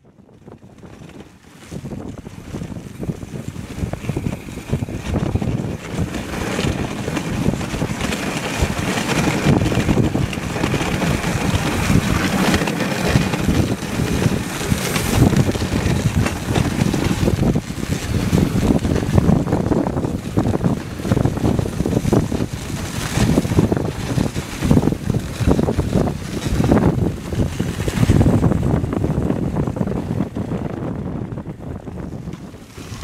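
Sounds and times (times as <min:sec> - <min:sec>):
wind buffeting microphone: 0:00.0 - 0:33.0
sled runners hissing over snow: 0:00.4 - 0:33.0.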